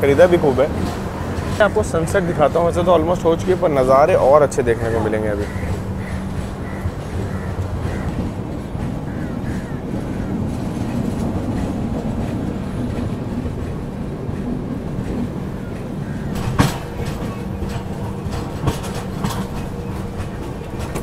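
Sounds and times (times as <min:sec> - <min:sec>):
train rumble: 0:00.0 - 0:21.0
wheels clicking over rails: 0:00.0 - 0:21.0.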